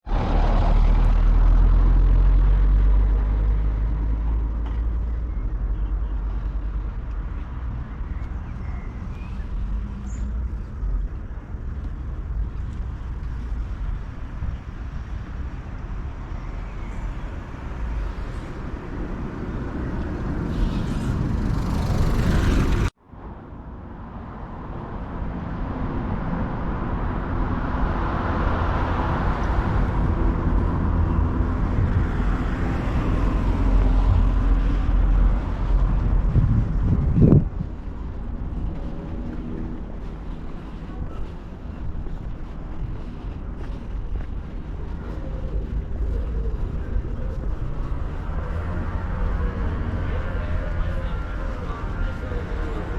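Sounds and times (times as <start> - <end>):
road traffic engines passing: 0.0 - 52.9.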